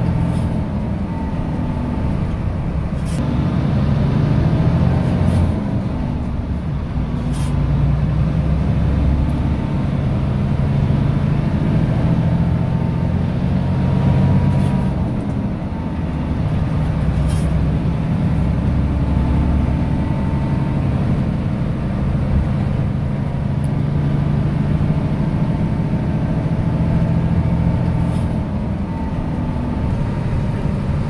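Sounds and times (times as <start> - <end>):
diesel engine drone: 0.0 - 31.0.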